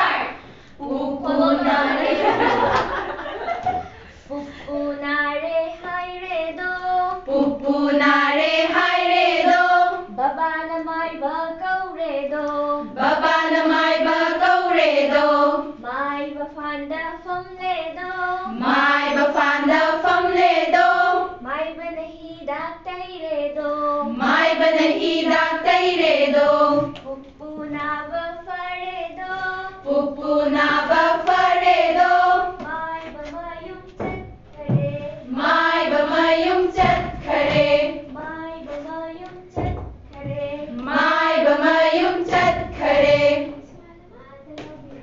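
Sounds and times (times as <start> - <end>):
young women singing in unison: 0.0 - 21.9, 23.2 - 43.8.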